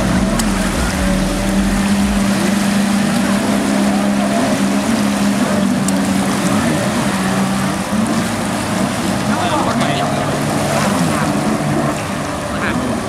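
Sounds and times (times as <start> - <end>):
jet ski engines droning: 0.0 - 13.0
rushing water: 0.0 - 13.0.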